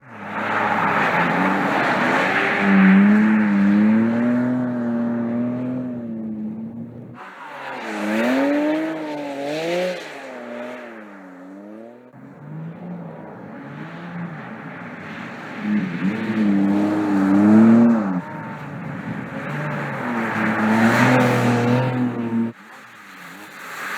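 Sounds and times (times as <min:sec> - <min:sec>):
sports car engine revving: 0:00.0 - 0:23.9.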